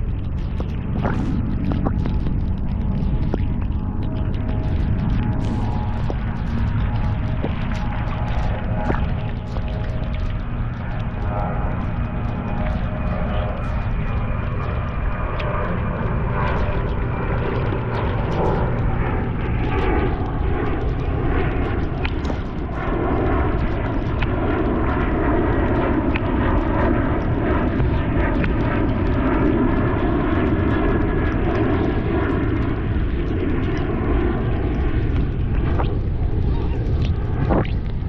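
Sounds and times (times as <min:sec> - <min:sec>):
airplane engine drone: 0:00.0 - 0:38.0
constant low rumble: 0:00.0 - 0:38.0.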